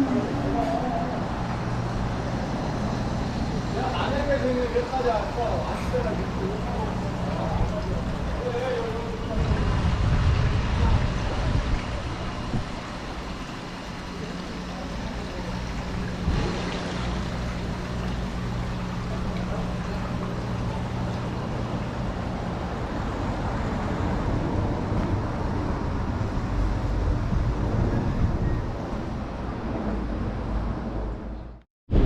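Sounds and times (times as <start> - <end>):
vehicle engine hum: 0.0 - 31.6
wind rumbling on microphone: 0.0 - 32.0.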